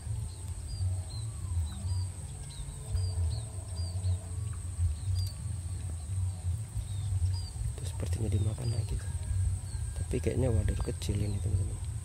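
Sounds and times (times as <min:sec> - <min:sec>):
bird chirping: 0:00.0 - 0:12.0
high insect whine: 0:00.0 - 0:12.0
low rumble: 0:00.0 - 0:12.0.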